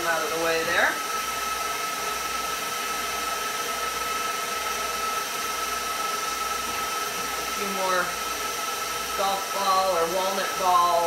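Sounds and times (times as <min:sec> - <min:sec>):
stand mixer motor running: 0:00.0 - 0:11.0.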